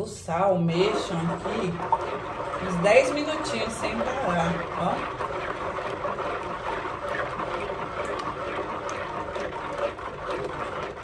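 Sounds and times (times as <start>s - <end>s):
wet sloshing of soap batter: 0.0s - 11.0s
ladle clicking against bowl: 1.4s - 11.0s.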